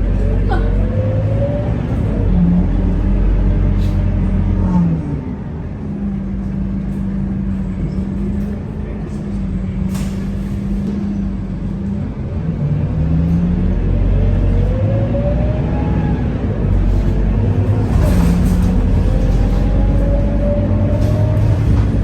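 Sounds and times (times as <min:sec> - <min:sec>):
bus diesel engine accelerating: 0:00.0 - 0:22.0.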